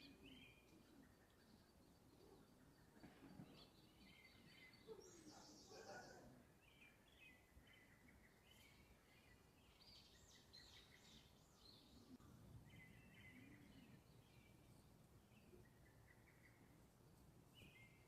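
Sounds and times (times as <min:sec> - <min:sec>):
birds chirping: 0:00.0 - 0:18.0
low background noise: 0:00.0 - 0:18.0
soft bird twittering: 0:00.0 - 0:18.0.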